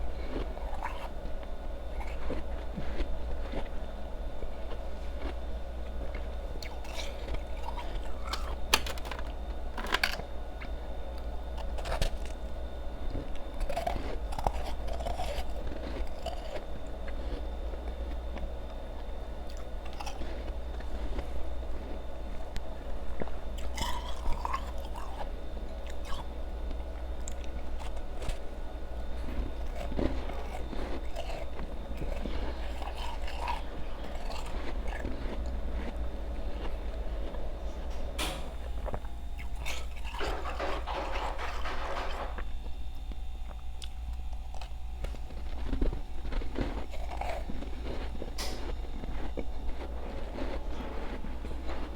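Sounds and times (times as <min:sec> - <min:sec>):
ice being chewed: 0:00.0 - 0:51.9
steady low hum: 0:00.0 - 0:51.9.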